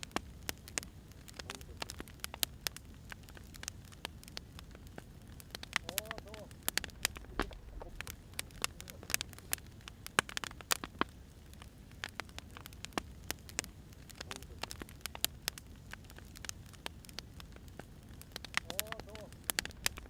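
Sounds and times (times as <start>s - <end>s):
fire hissing: 0.0s - 20.0s
firewood crackling and popping: 0.0s - 20.0s.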